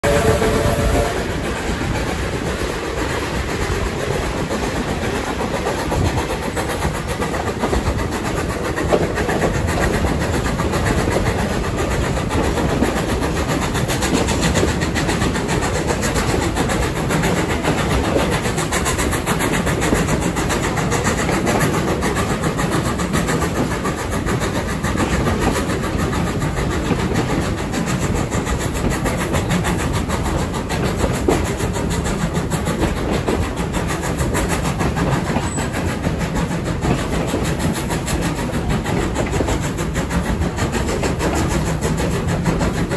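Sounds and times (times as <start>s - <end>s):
train rushing and rumbling: 0.0s - 42.9s.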